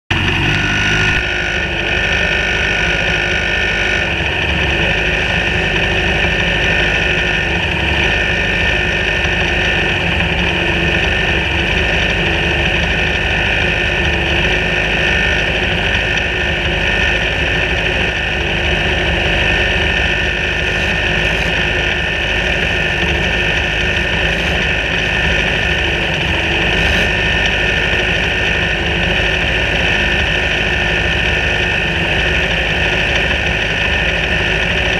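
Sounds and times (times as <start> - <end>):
racing car engine idling: 0.1 - 34.9.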